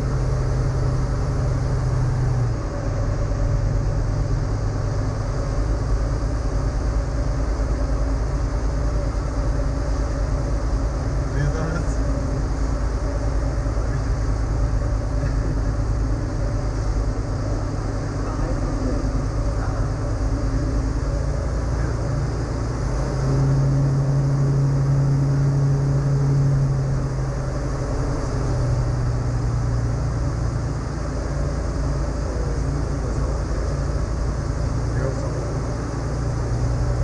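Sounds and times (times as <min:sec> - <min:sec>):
aircraft engine and propeller droning: 0:00.0 - 0:37.0.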